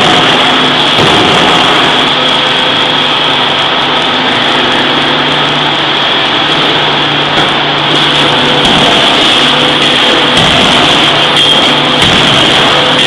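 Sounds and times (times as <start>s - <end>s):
machinery high whine: 0.0s - 13.0s
machinery low hum: 0.0s - 13.0s.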